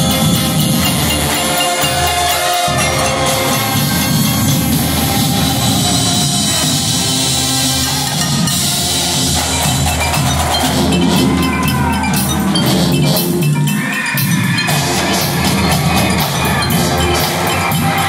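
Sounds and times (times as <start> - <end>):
bass drums: 0.0 - 18.0
brass: 0.0 - 18.0
marimbas and xylophones: 0.0 - 18.0
snare drums: 0.0 - 18.0.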